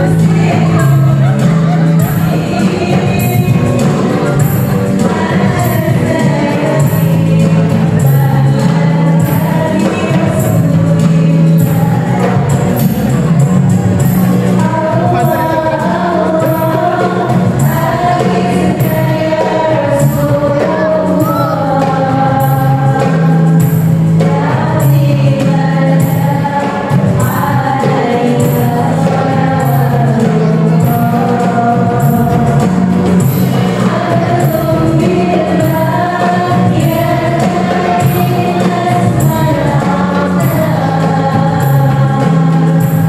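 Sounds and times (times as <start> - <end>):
electronic keyboard accompaniment: 0.0 - 43.0
percussion steady beat: 0.0 - 43.0
several voices singing devotional song: 0.0 - 43.0.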